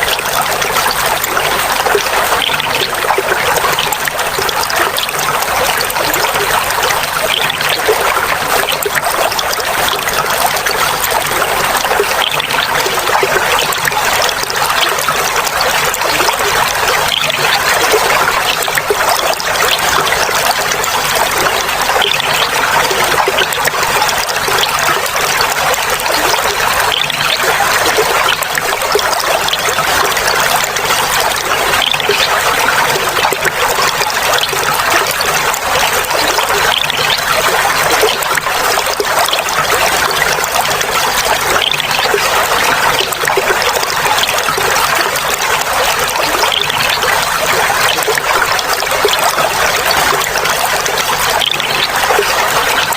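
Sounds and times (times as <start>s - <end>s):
water running and trickling: 0.0s - 52.9s.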